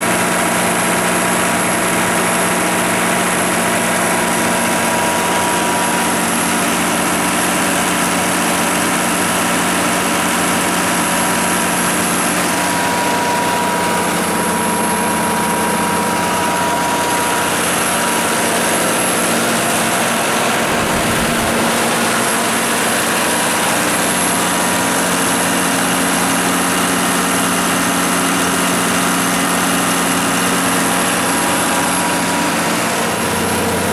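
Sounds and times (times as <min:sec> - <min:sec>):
diesel generator humming: 0:00.0 - 0:33.9.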